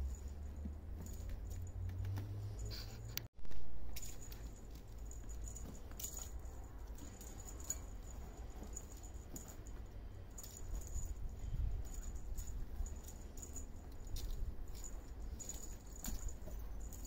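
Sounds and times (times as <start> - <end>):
faint high jingle: 0.0 - 3.2, 3.8 - 17.0
soft rattling and rustling: 0.0 - 17.0.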